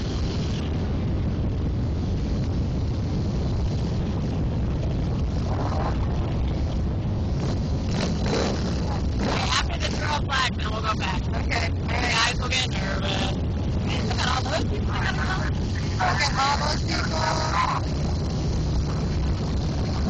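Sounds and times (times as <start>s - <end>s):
motorcycle engines rumbling: 0.0s - 20.0s.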